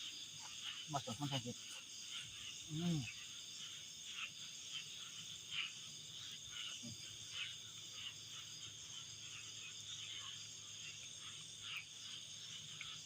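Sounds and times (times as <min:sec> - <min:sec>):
insect chirps: 0:00.0 - 0:13.0
insects whirring chorus: 0:00.0 - 0:13.0.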